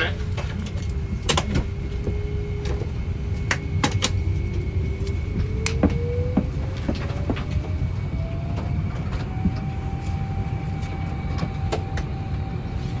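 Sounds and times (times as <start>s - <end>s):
aircraft cabin rumble: 0.0s - 13.0s
rising whine: 0.0s - 13.0s.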